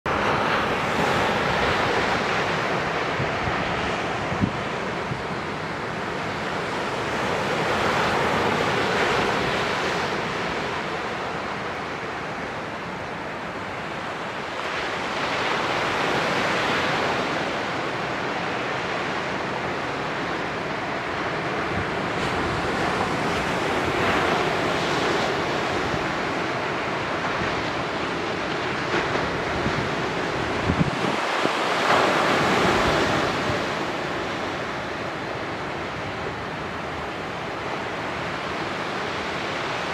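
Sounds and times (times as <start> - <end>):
small waves breaking on beach: 0.1 - 39.9
wind rumble on microphone: 0.1 - 39.9.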